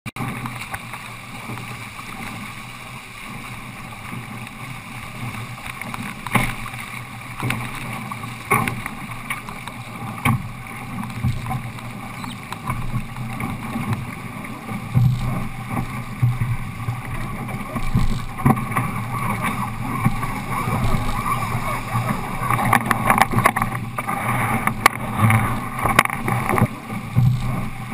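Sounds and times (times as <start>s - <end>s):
water rushing: 0.1s - 27.9s
wind: 0.1s - 27.9s.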